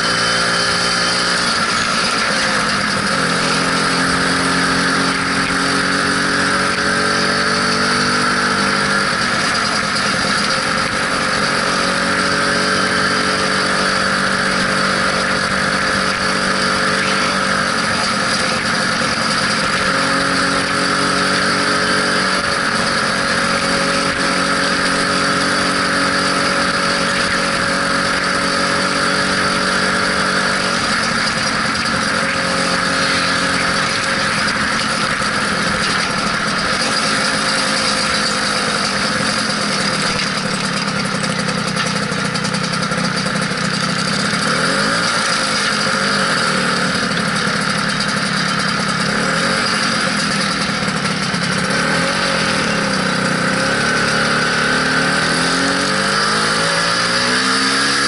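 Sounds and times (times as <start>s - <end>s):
scooter engine running: 0.0s - 58.0s
wind and road noise: 0.0s - 58.0s.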